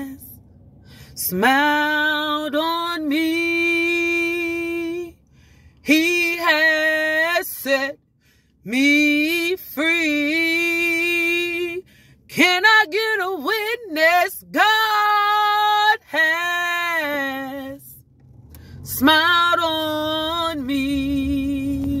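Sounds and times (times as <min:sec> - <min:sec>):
woman singing unaccompanied: 0:00.0 - 0:00.4, 0:01.2 - 0:05.2, 0:05.8 - 0:08.0, 0:08.7 - 0:18.0, 0:18.9 - 0:22.0.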